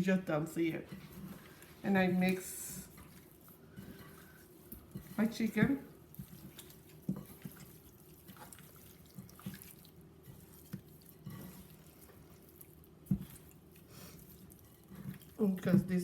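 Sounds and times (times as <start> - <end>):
raw chicken mixed by hand: 0.0 - 16.0.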